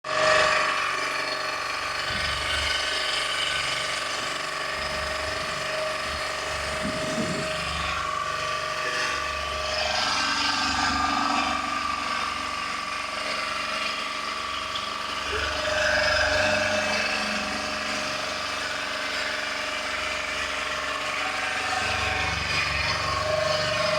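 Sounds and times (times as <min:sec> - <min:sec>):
small motor humming: 0:00.1 - 0:23.9
rattly background noise: 0:00.2 - 0:23.9.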